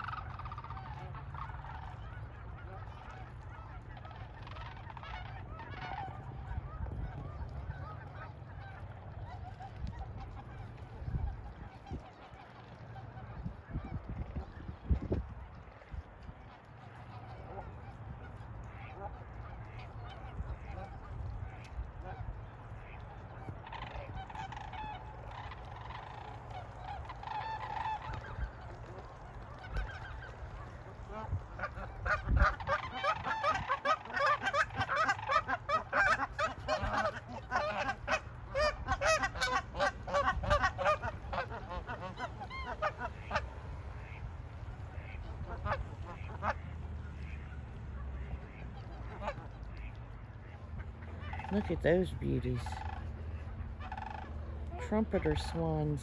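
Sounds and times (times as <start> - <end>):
waterfowl honking: 0.0 - 56.0.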